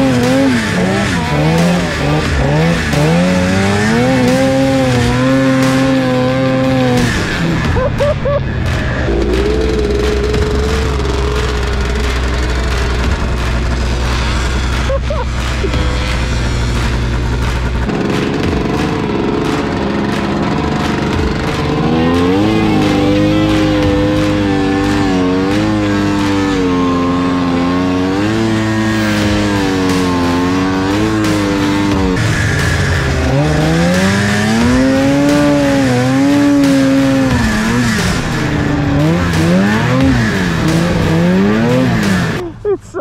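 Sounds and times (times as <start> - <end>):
snowmobile engine revving: 0.0 - 43.0.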